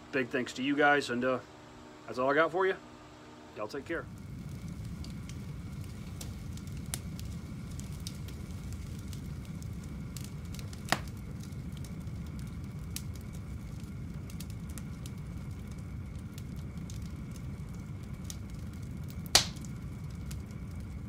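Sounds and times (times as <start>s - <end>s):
fire crackling: 0.0s - 21.0s
sharp loud pops of fire: 4.1s - 21.0s.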